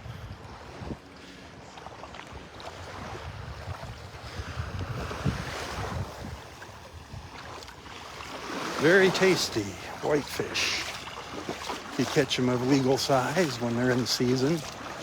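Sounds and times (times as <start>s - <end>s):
small waves washing: 0.0s - 15.0s
wind buffeting microphone: 0.0s - 15.0s.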